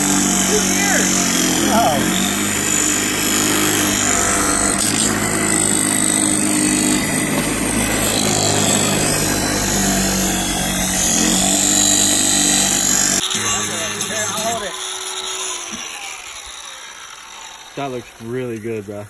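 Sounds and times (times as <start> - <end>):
bench grinder motor hum: 0.0 - 18.6.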